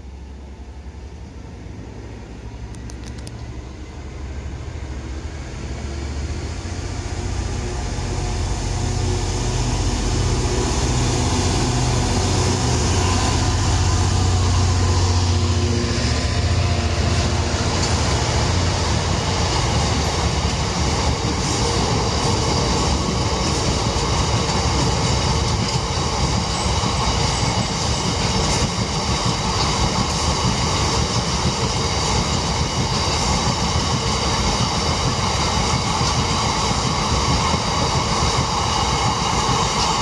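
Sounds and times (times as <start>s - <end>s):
train wheels on rails: 0.0s - 40.0s.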